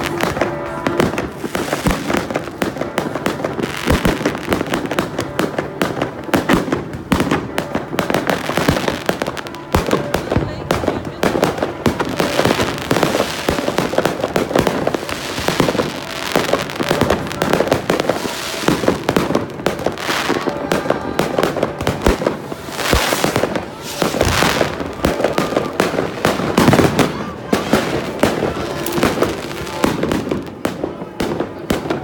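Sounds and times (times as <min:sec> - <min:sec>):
fireworks bangs and crackling: 0:00.0 - 0:32.0.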